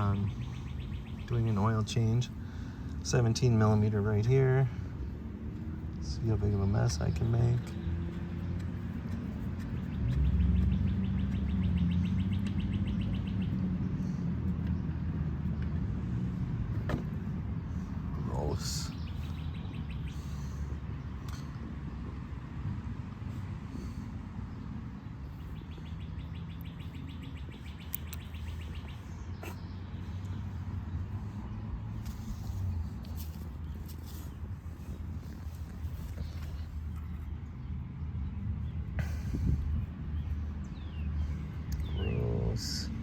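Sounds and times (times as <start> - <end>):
rapid bird chirps: 0.0 - 3.7, 6.6 - 15.7, 17.5 - 22.0, 23.3 - 43.0
steady low rumble: 0.0 - 42.0.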